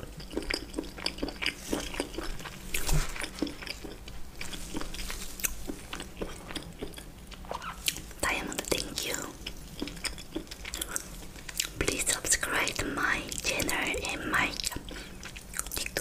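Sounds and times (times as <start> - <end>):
chewing and wet mouth clicks: 0.0 - 16.0.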